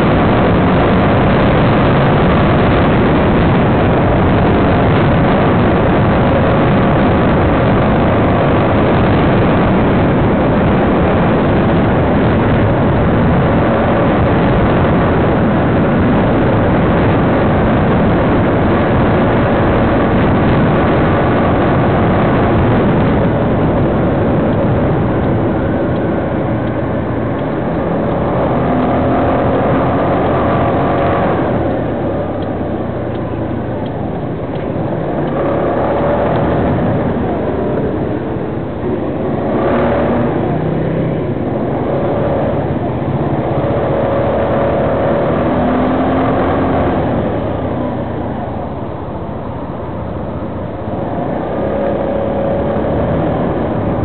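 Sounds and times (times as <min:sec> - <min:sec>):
road noise: 0:00.0 - 0:54.0
vehicle engine: 0:00.0 - 0:54.0
wind noise: 0:00.0 - 0:54.0.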